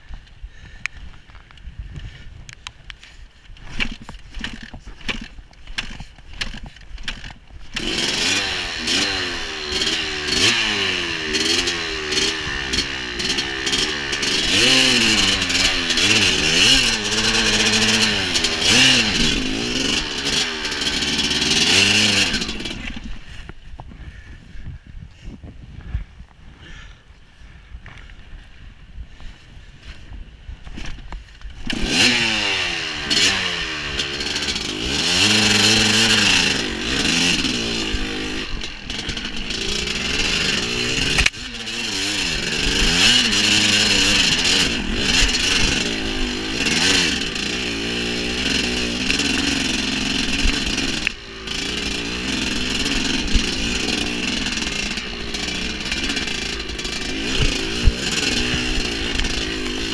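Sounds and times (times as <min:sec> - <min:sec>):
dirt bike engine revving: 0:03.6 - 0:23.5, 0:31.5 - 0:59.9.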